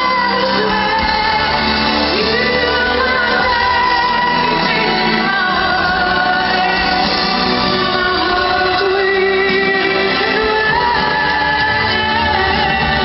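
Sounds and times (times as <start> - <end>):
band playing: 0.0 - 13.0
woman singing sustained notes: 0.0 - 13.0.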